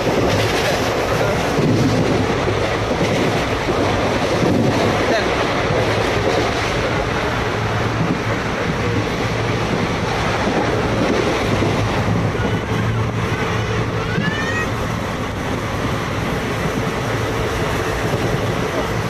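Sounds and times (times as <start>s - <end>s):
train wheels rolling: 0.0s - 19.0s.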